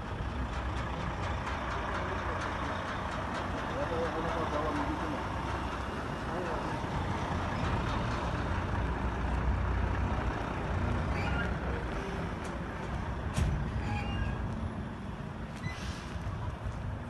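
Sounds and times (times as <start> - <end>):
diesel truck engine idling: 0.0 - 13.8.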